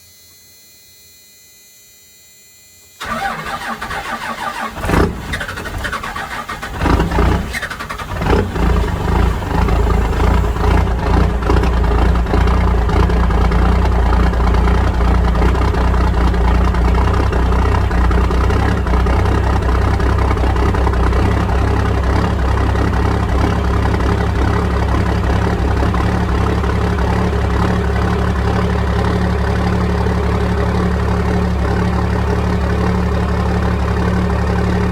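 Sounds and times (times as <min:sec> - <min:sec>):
diesel engine cranking and idling: 0:03.0 - 0:34.9.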